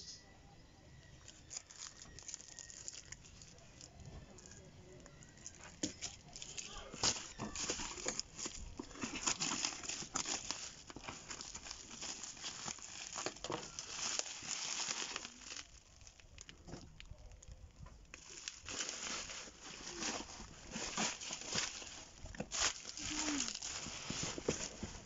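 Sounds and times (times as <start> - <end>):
bubble wrap crinkling: 1.0 - 25.0.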